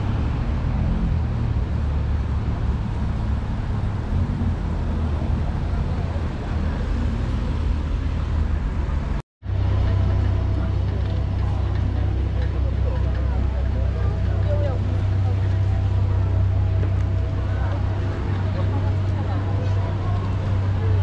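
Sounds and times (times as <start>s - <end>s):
steady traffic rumble: 0.0s - 21.0s.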